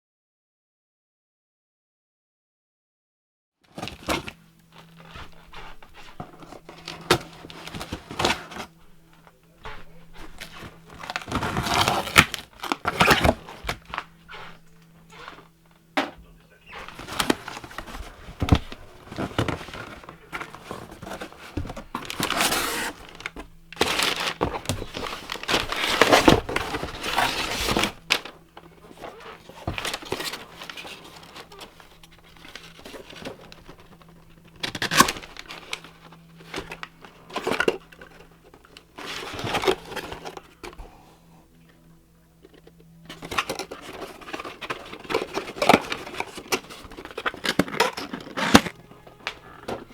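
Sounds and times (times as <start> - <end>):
packaging crinkling and tearing: 3.8 - 41.1, 41.8 - 49.9.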